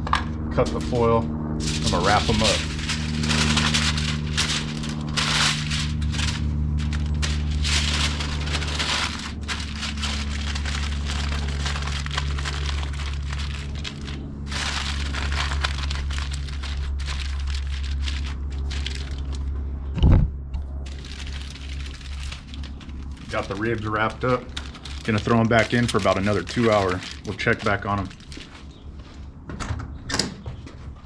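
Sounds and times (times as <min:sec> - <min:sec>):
aluminium foil crinkling: 0:00.8 - 0:01.0, 0:01.6 - 0:19.6, 0:20.9 - 0:28.9.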